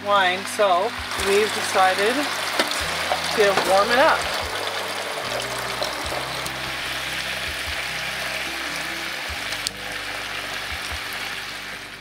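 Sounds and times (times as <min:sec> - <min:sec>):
background music: 0:00.0 - 0:12.0
chicken frying in a pan: 0:00.0 - 0:12.0
wine pouring into a pot: 0:00.4 - 0:12.0.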